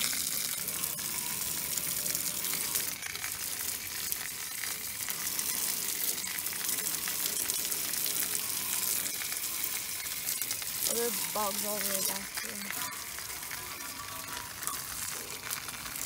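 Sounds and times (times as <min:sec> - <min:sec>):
hose water spraying on metal fins: 0:00.0 - 0:16.0.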